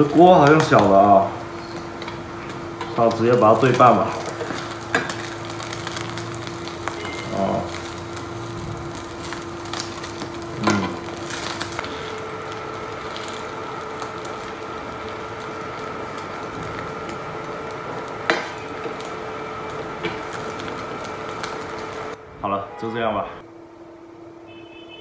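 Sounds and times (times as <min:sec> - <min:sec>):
food sizzling in oil: 0:00.0 - 0:22.2
steady whine: 0:00.0 - 0:25.0.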